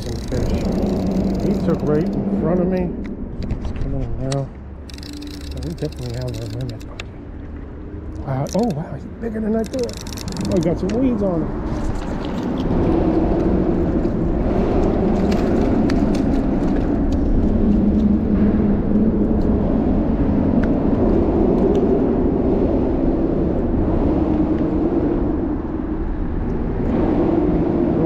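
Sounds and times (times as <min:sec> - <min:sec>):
traffic rumbling overhead: 0:00.0 - 0:28.0.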